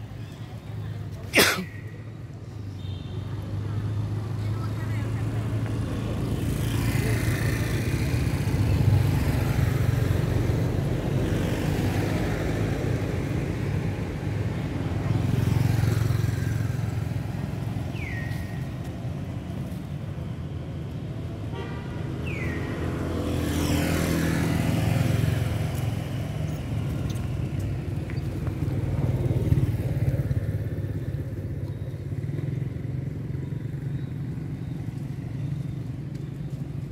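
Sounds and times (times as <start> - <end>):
vehicle engine rumble: 0.0 - 36.9.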